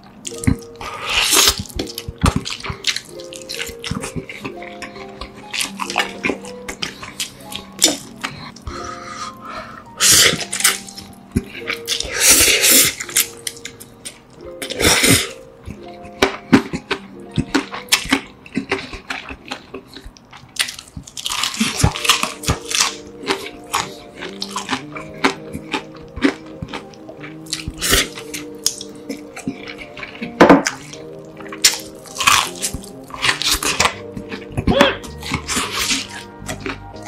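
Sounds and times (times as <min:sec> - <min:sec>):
background music: 0:00.0 - 0:37.0
person chewing crispy chicken: 0:00.0 - 0:37.0.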